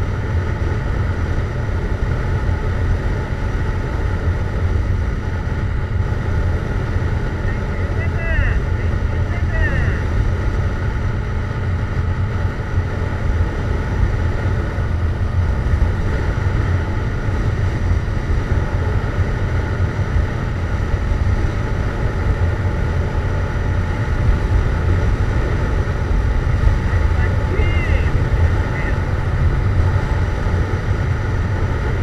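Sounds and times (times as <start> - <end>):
riding wind rush: 0.0 - 32.0.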